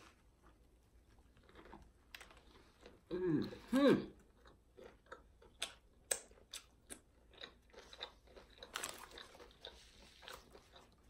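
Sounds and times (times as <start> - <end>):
chewing crunchy food: 0.3 - 11.0.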